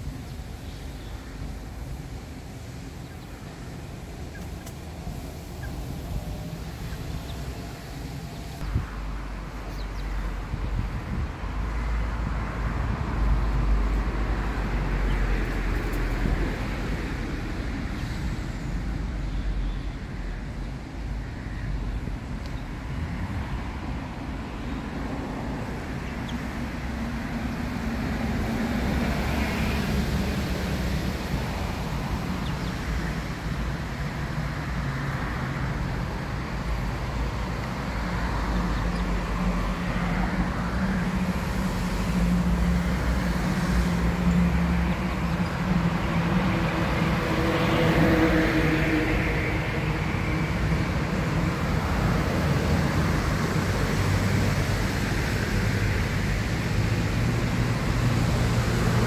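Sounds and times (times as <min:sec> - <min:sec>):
road traffic rumble: 0:00.0 - 0:59.0
vehicle engine hum: 0:00.0 - 0:59.0.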